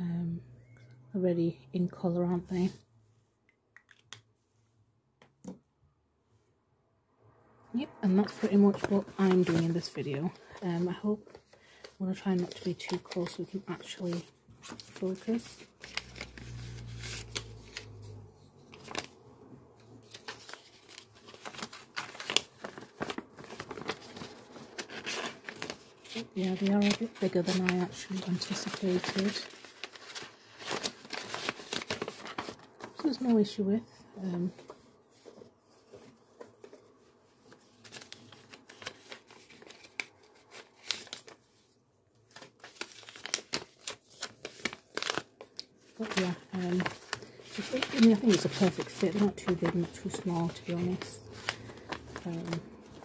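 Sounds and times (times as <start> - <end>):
banknotes crinkling: 8.1 - 19.2, 19.9 - 33.6, 34.5 - 53.0
paper envelopes handled: 8.1 - 19.2, 19.9 - 33.4, 34.4 - 53.0.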